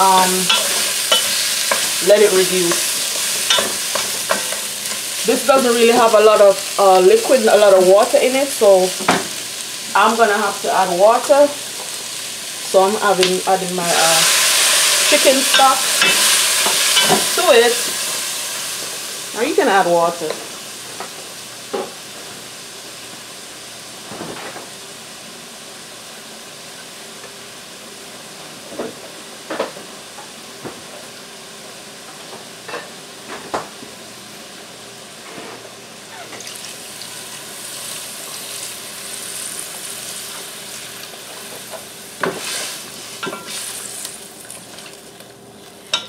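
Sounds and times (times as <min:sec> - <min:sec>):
chicken sizzling in a pot: 0:00.0 - 0:46.0.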